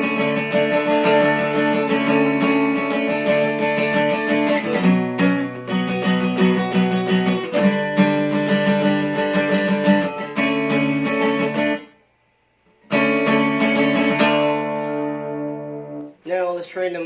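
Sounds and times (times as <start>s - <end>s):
acoustic guitar strumming: 0.0s - 12.0s, 12.7s - 17.0s.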